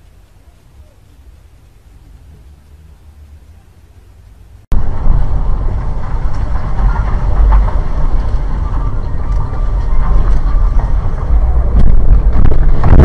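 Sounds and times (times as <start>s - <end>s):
vehicle driving rumble: 0.0s - 13.0s.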